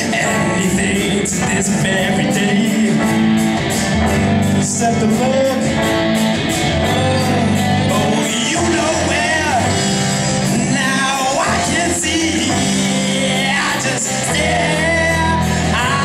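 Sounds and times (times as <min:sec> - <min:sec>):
live rock band playing: 0:00.0 - 0:16.0
person singing: 0:00.0 - 0:16.0.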